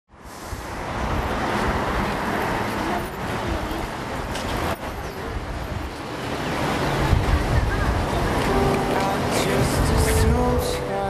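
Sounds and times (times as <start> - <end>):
city street traffic: 0.1 - 11.0.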